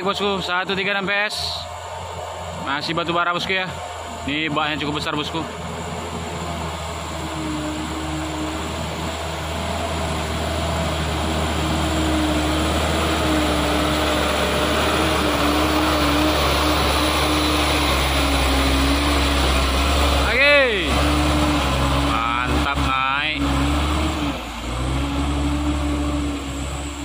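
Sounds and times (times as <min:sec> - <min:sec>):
truck diesel engine labouring: 0:00.0 - 0:27.0.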